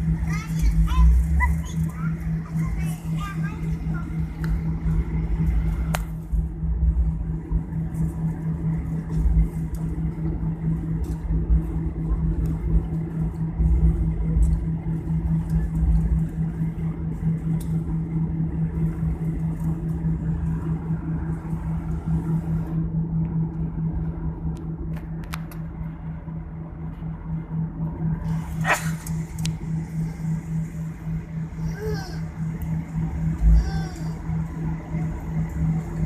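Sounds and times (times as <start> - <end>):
cabin low hum: 0.0 - 36.0
uneven rumble: 0.0 - 36.0.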